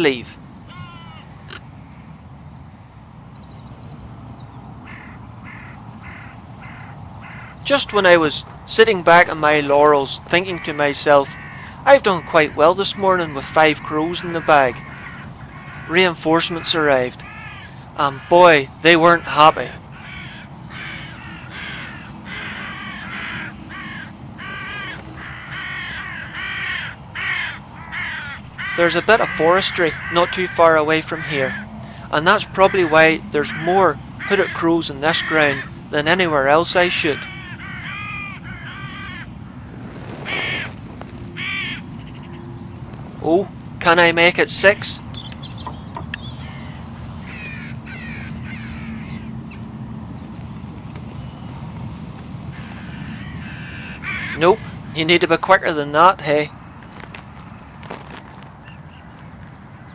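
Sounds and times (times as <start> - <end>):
crows cawing: 0.0 - 2.1, 4.8 - 51.8, 52.4 - 59.9
field background noise: 0.0 - 59.9.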